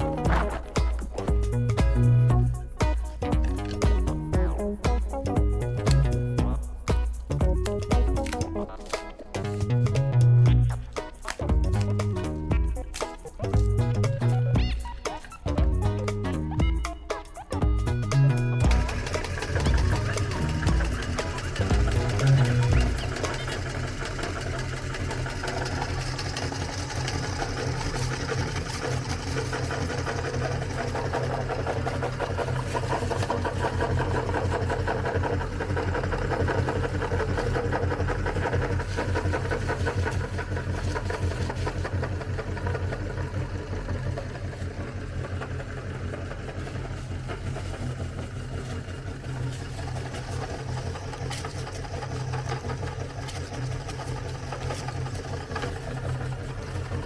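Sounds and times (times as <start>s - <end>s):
crackles of grinding cookies: 0.0s - 57.0s
meat grinder motor humming: 0.0s - 57.0s.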